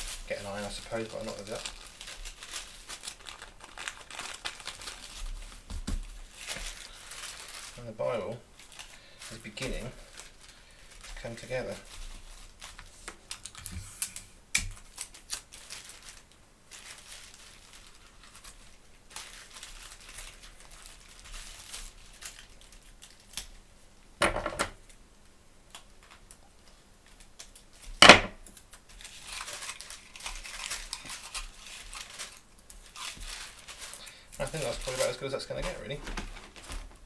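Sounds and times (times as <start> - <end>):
paper and tape crinkling: 0.0 - 23.8, 25.7 - 37.0.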